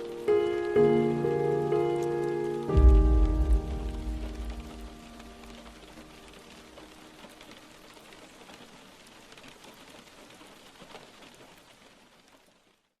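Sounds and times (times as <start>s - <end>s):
rain falling: 0.0s - 13.0s
raindrops ticking: 0.0s - 13.0s.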